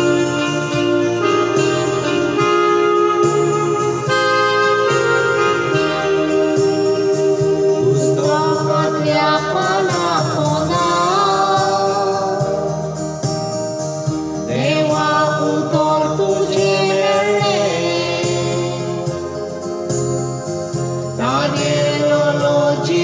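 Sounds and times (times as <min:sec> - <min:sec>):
person singing a hymn: 0:00.0 - 0:13.0, 0:14.4 - 0:19.9, 0:21.2 - 0:23.0
electronic keyboard chords: 0:00.0 - 0:23.0.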